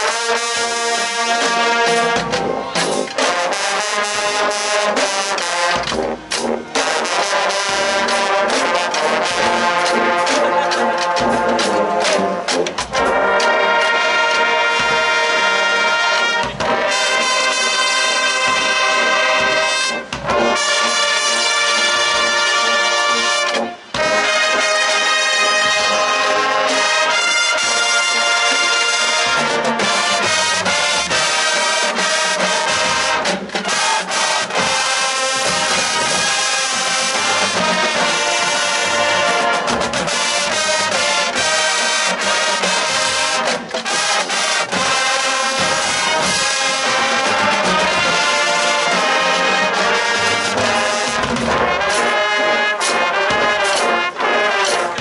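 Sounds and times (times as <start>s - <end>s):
marching band playing: 0.0s - 55.0s.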